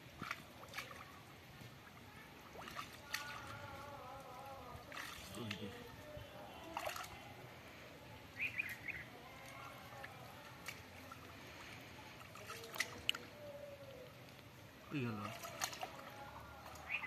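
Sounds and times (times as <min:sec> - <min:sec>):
hands stirring muddy water: 0:00.0 - 0:17.0
water trickling: 0:00.0 - 0:17.0.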